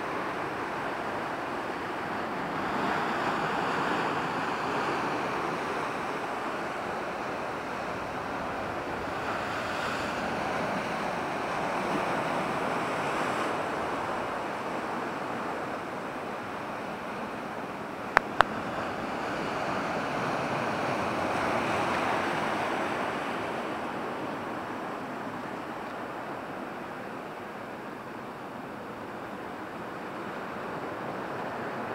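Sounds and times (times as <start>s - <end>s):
surf washing over rocks: 0.0s - 31.9s.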